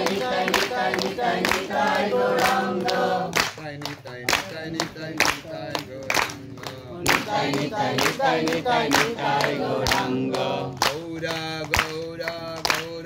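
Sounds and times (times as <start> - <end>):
group chanting in chorus: 0.0 - 11.6
sharp claps: 0.0 - 13.0.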